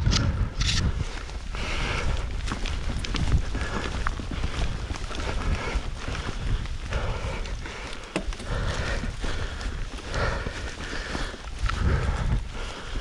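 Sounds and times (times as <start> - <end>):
bike tyres rumbling on trail: 0.0 - 13.0
wind buffeting microphone: 0.0 - 13.0
bike clattering over bumps: 1.6 - 12.2.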